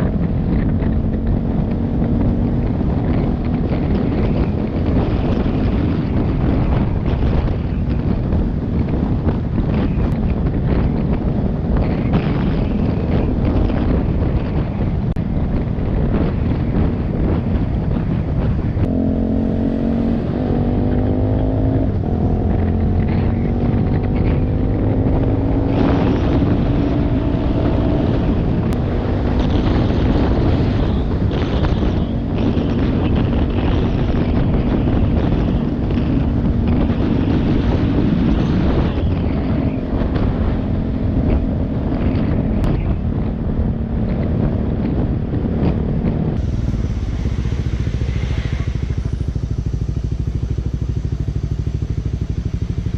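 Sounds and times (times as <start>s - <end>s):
motorcycle engine shifting gears: 0.0s - 52.9s
wind buffeting microphone: 0.0s - 52.9s.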